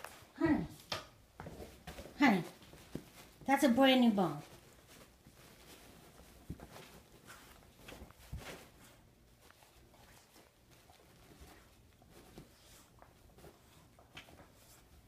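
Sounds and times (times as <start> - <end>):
blanket rustling: 1.5 - 15.0.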